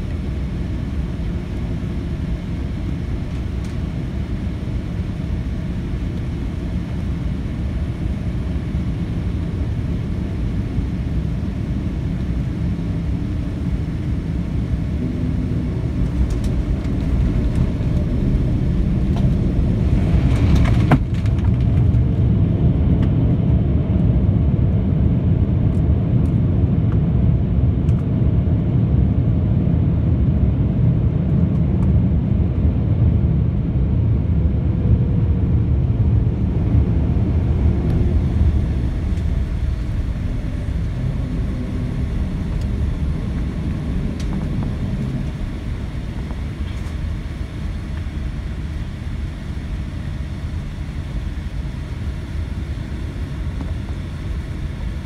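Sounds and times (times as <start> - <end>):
jet rumbling on runway: 0.0 - 26.7, 27.3 - 55.0.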